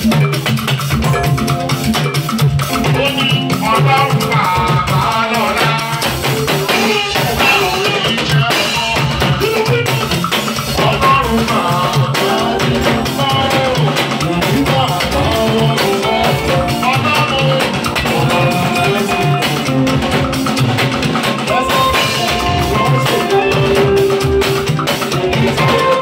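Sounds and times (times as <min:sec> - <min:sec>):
guitar: 0:00.0 - 0:26.0
party music: 0:00.0 - 0:26.0
steady drum beat: 0:00.0 - 0:26.0
person singing: 0:02.6 - 0:26.0.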